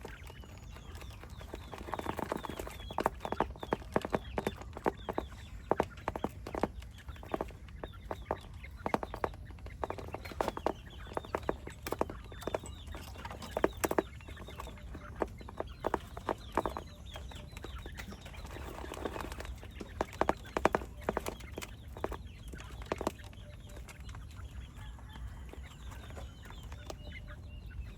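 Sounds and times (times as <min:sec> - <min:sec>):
chickens clucking: 0:00.0 - 0:27.9.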